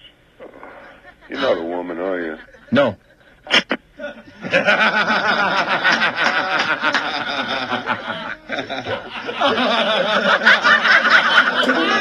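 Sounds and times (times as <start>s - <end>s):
people laughing: 2.2s - 12.0s.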